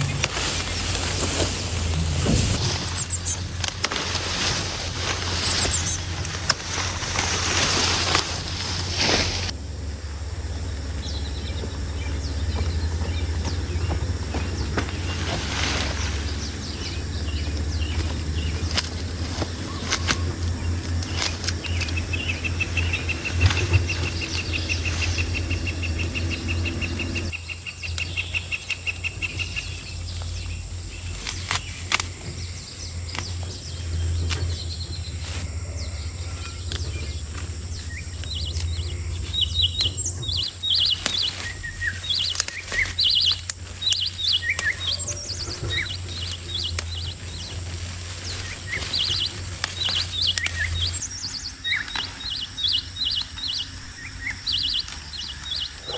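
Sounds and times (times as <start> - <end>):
birds chirping: 0.0 - 55.9
steady low hum: 0.0 - 55.9.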